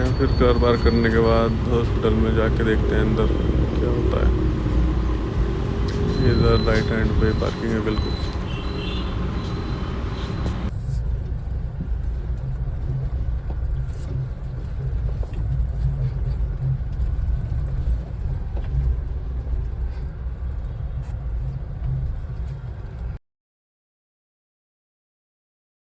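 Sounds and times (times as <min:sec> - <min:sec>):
engine and tyre rumble: 0:00.0 - 0:23.1.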